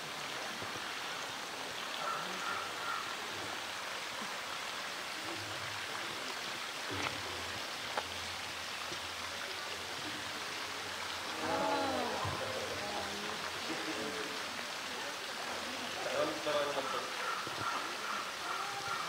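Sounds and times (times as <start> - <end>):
rain and running water: 0.0 - 19.0.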